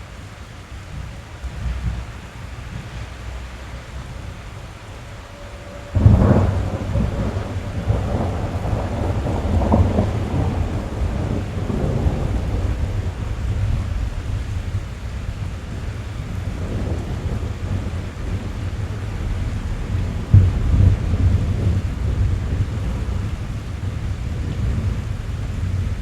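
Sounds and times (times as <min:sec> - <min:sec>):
rain drumming on car roof: 0:00.0 - 0:26.0
thunder clap and rumbling: 0:00.0 - 0:26.0.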